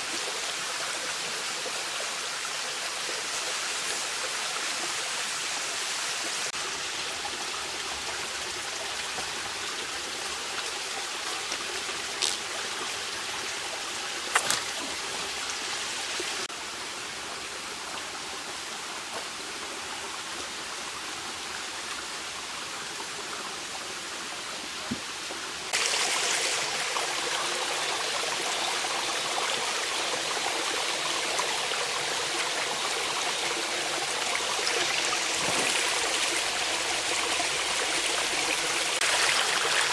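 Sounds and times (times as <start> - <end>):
mountain stream flowing: 0.0 - 39.9.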